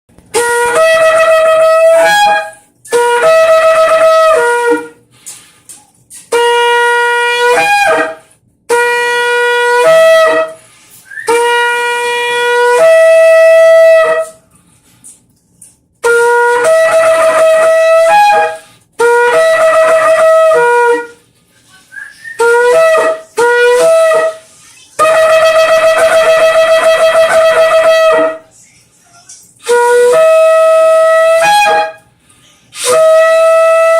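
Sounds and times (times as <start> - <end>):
ram's horn blasts: 0.2 - 5.2, 6.0 - 15.2, 15.9 - 28.5, 29.6 - 33.9.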